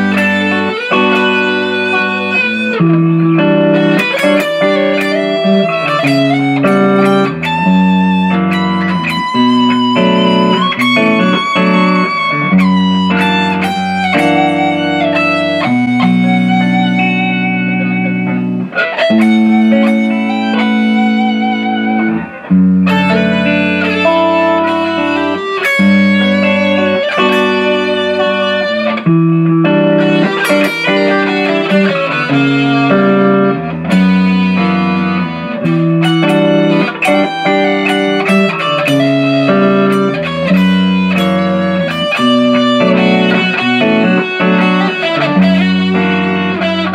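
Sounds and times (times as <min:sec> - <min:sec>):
amplified electric guitar: 0:00.0 - 0:46.9.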